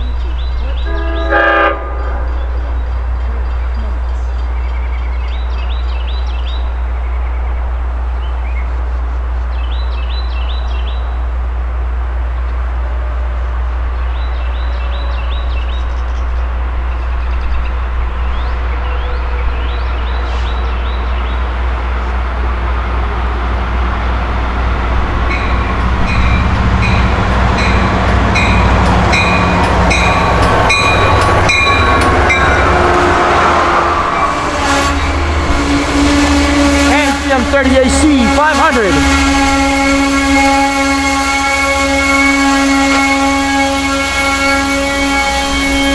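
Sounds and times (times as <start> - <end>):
train rumbling: 0.0 - 45.9.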